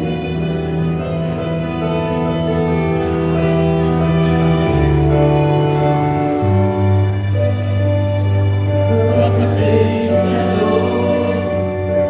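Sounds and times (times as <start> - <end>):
cello: 0.0 - 12.0
clarinet: 0.0 - 12.0
keyboard: 0.0 - 12.0
violin: 0.0 - 12.0.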